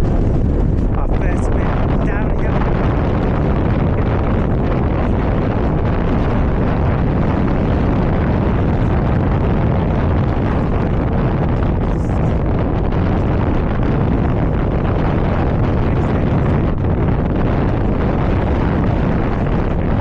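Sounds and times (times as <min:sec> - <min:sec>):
strong wind buffeting microphone: 0:00.0 - 0:20.0.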